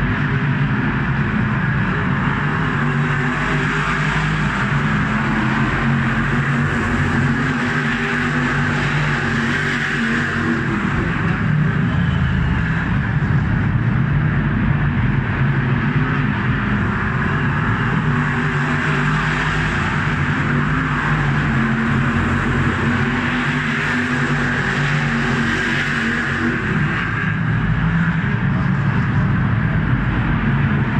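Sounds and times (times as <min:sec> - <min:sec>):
race car engines droning: 0:00.0 - 0:30.9.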